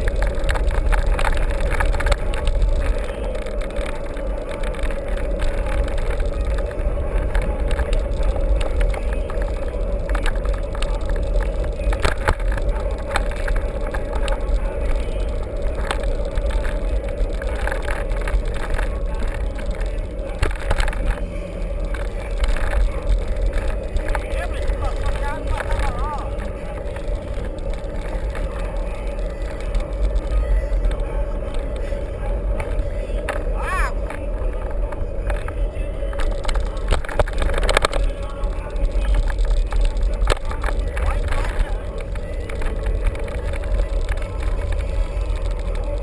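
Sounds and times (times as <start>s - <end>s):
bike rattling and knocking: 0.0s - 46.0s
wind rumble on microphone: 0.0s - 46.0s.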